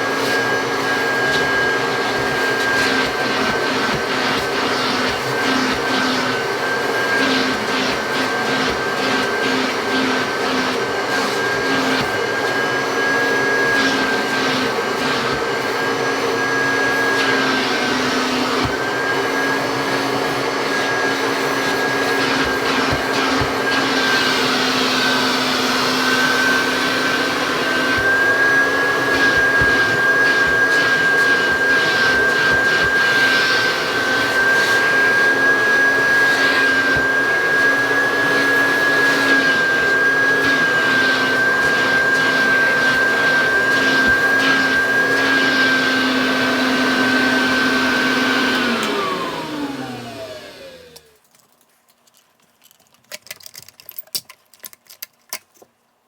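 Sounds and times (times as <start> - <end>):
vacuum cleaner motor whine: 0.0 - 51.2.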